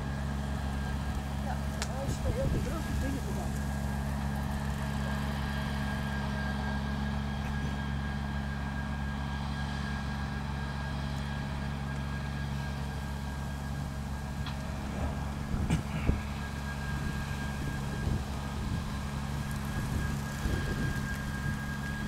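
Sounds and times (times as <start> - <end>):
high machinery whine: 0.0 - 22.0
low engine drone: 0.0 - 22.0.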